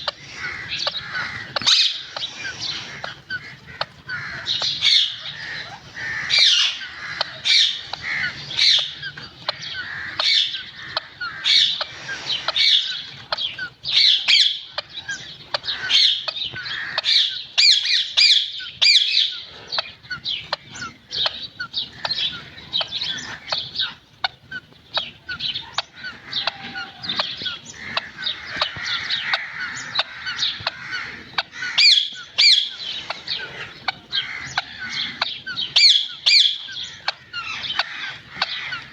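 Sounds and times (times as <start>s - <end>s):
parrots squawking and chirping: 0.0s - 38.9s.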